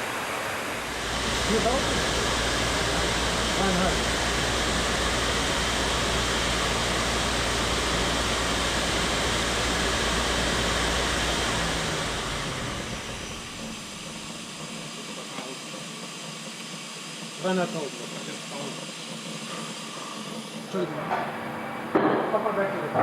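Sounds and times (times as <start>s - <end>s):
machine spindle whirring: 0.2s - 23.0s.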